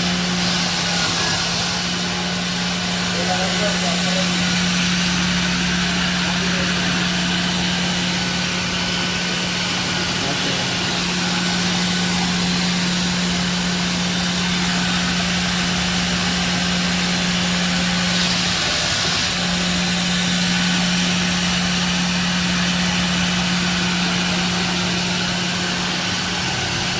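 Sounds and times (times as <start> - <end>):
belt grinding machine hum and hiss: 0.0 - 26.9.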